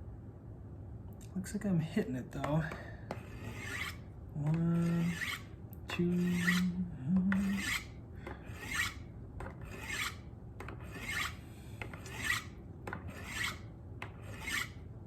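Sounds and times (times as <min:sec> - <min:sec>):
knife scraping on ceramic rods: 0:02.6 - 0:14.8.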